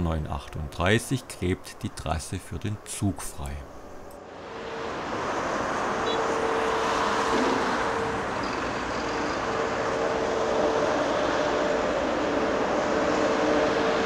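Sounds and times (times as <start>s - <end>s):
excavator engine drone: 0.0s - 14.0s.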